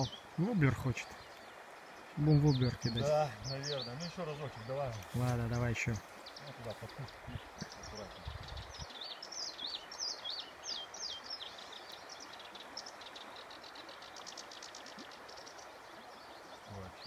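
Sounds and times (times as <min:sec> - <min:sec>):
songbird chirping: 0:00.0 - 0:17.0
stream water running: 0:00.0 - 0:17.0.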